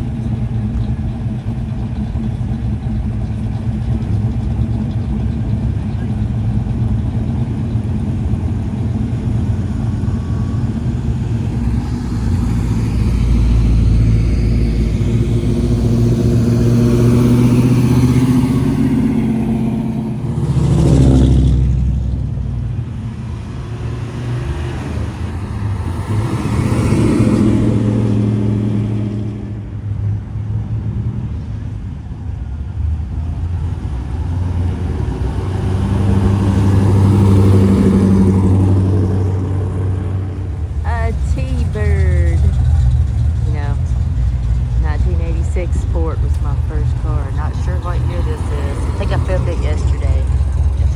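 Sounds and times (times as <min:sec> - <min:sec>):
cars driving past: 0:00.0 - 0:50.9.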